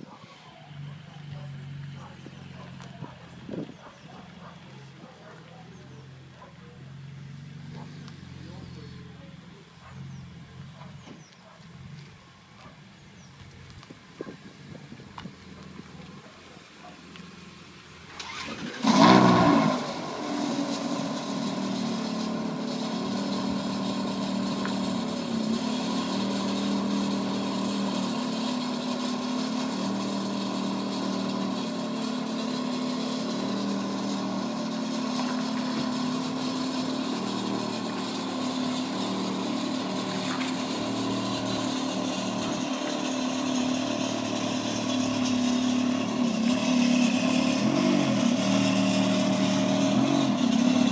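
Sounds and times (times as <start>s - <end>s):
car engine starting and idling: 0.0s - 50.9s.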